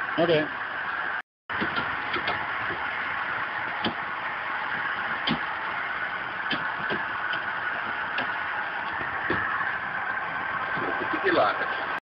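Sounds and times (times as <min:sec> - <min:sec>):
loud steady background noise: 0:00.0 - 0:12.0.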